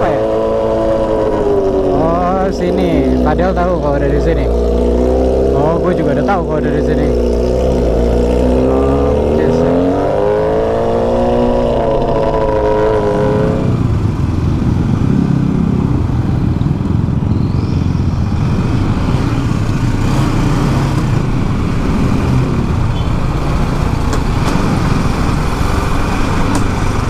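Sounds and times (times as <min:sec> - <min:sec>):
motorcycle engine low rumble: 0:00.0 - 0:27.0.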